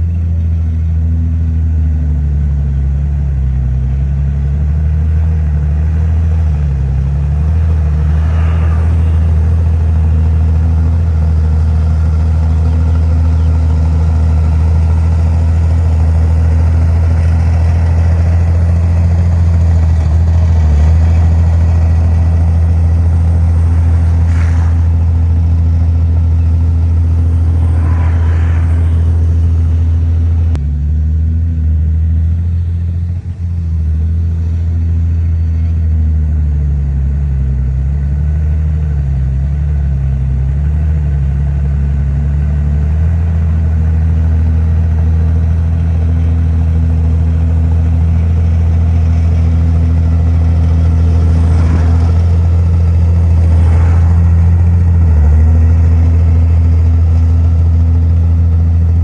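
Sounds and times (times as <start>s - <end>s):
heavy diesel machinery droning: 0.0s - 59.0s.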